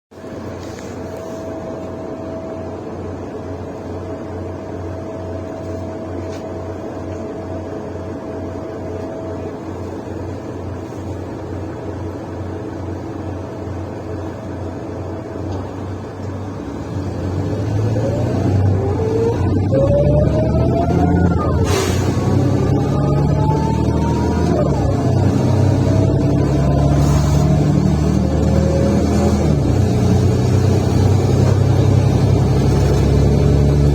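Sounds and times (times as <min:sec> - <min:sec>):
bus diesel engine idling: 0:00.2 - 0:33.9
steady whine: 0:00.2 - 0:33.9.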